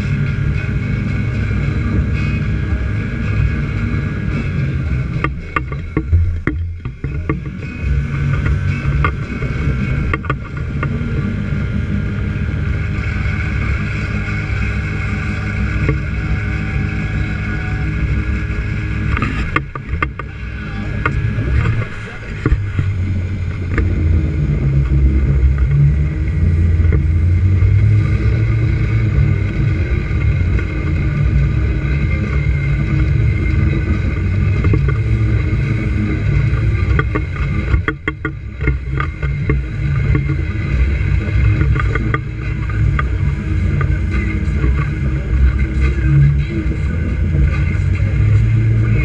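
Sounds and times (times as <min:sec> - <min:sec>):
outboard motor running: 0:00.0 - 0:49.0
wind on microphone: 0:00.0 - 0:49.0.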